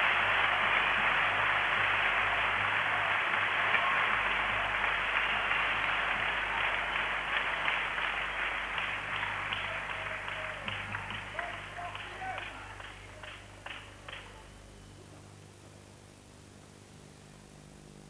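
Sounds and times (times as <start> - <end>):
crowd applauding: 0.0 - 14.6.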